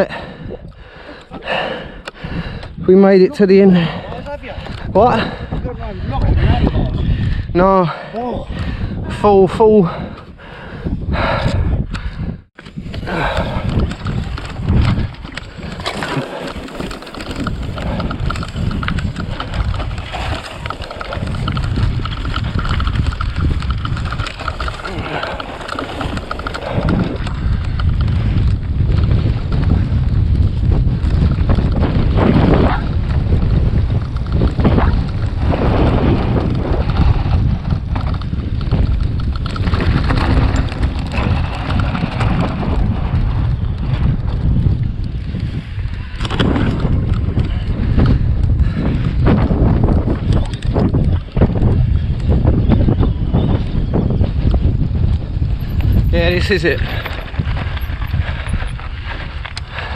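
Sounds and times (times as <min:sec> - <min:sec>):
bike tyre noise and rattles: 0:00.0 - 0:59.9
wind buffeting microphone: 0:00.0 - 0:59.9.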